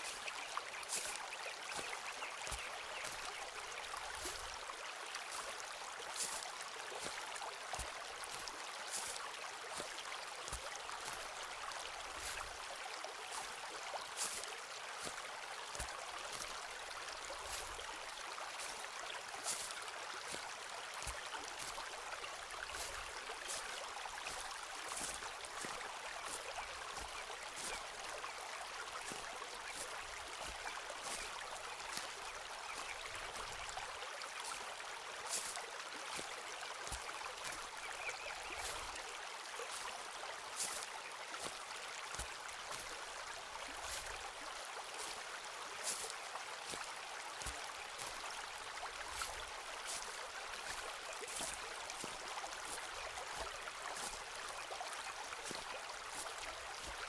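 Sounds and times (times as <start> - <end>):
footsteps on forest path: 0.0 - 57.0
stream rushing: 0.0 - 57.0.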